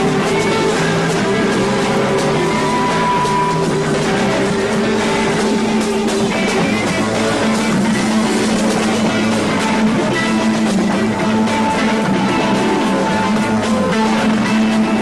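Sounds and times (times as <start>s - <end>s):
drum kit: 0.0s - 15.0s
electric guitar held notes: 0.0s - 15.0s
psychedelic rock band: 0.0s - 15.0s.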